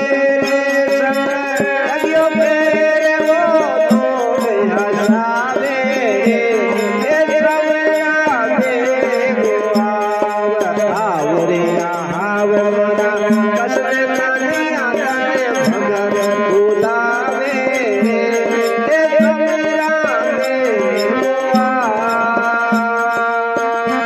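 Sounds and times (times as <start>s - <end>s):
hand drum beat: 0.0s - 24.0s.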